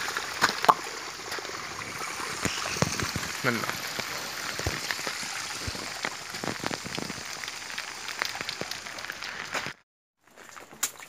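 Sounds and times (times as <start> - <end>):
rain on wet street: 0.0 - 9.8.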